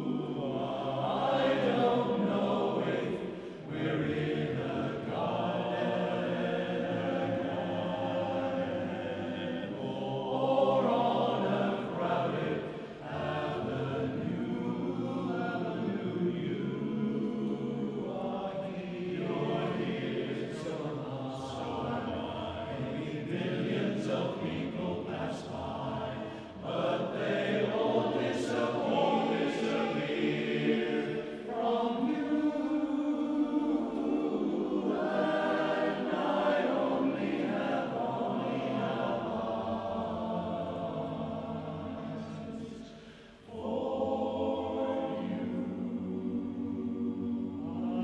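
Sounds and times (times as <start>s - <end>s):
men's chorus singing a cappella: 0.0s - 48.0s.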